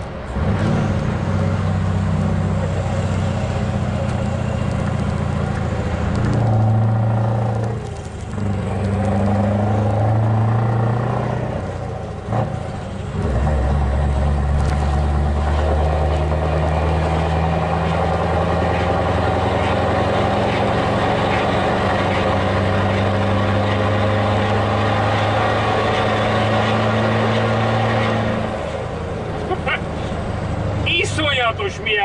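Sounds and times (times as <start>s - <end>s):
diesel truck engine under load: 0.0s - 32.0s.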